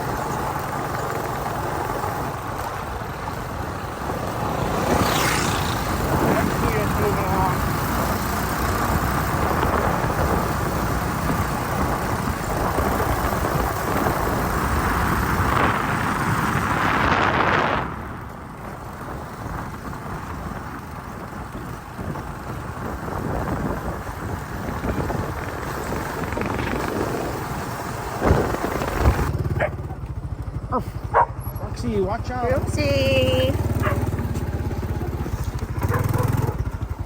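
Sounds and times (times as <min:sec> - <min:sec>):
motorcycle engine and road noise: 0:00.0 - 0:37.0
wind buffeting microphone: 0:02.2 - 0:37.0.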